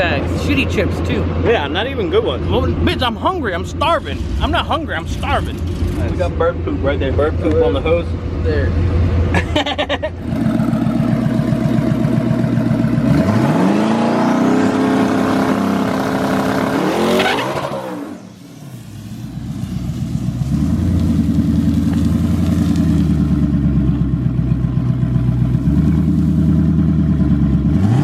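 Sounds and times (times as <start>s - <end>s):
another engine running: 0.0s - 28.0s
drag racing car engine: 0.0s - 28.0s.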